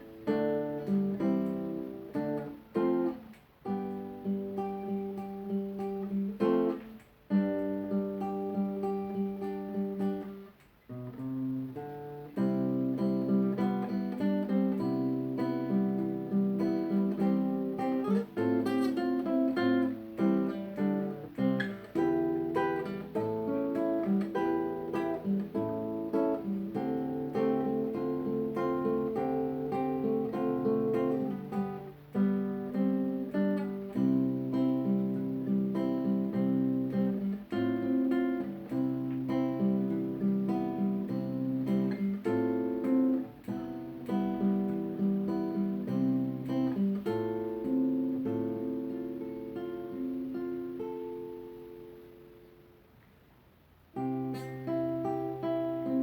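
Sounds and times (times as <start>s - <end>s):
acoustic guitar playing chords: 0.0s - 56.0s.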